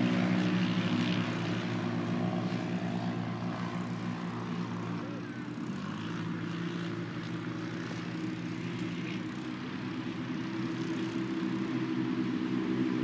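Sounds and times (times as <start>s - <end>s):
drone propellers humming: 0.0s - 13.0s.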